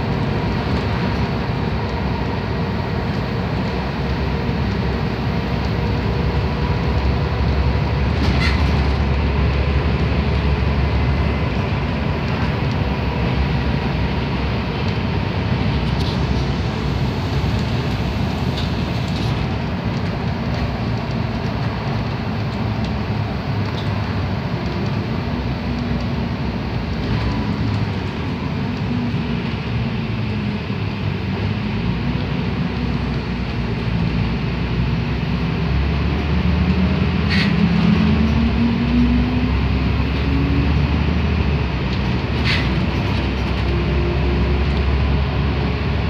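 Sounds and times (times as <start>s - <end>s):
bus diesel engine drone: 0.0s - 46.0s
road noise: 0.0s - 46.0s.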